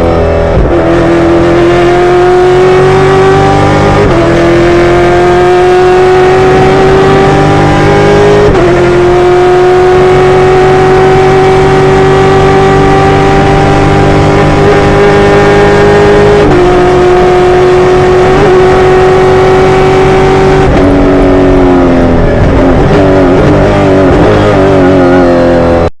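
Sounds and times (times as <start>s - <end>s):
engine revving at high revs: 0.0s - 25.9s.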